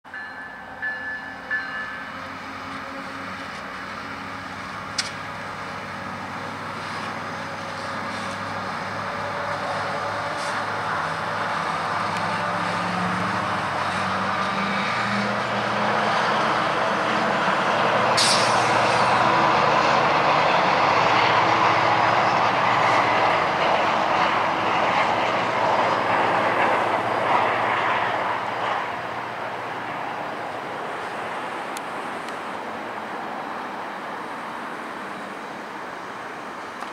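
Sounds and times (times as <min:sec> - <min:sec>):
diesel locomotive engines pulling: 0:00.1 - 0:36.9
wheel-on-rail noise: 0:01.0 - 0:36.9.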